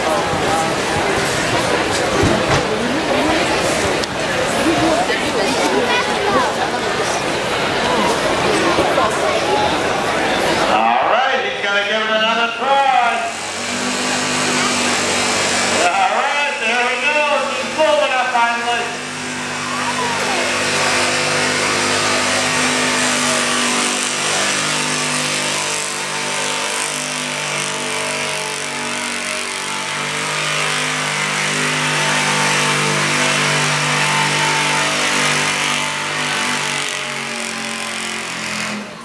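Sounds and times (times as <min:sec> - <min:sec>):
truck engine at high revs: 0:00.0 - 0:39.0.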